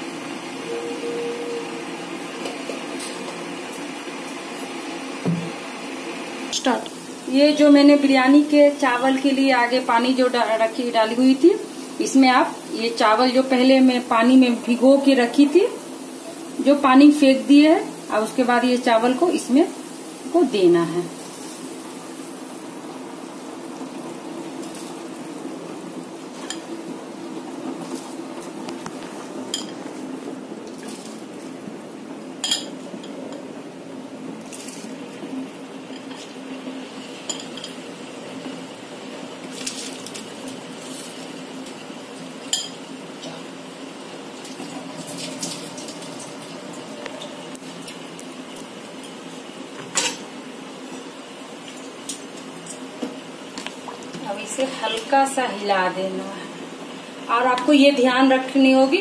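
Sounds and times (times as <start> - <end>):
water boiling in a pot: 0.0 - 59.0.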